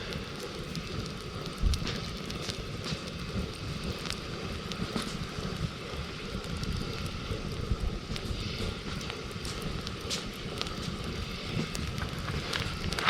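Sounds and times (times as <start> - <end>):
campfire crackling and popping: 0.0 - 13.0
low rumble: 0.0 - 13.0.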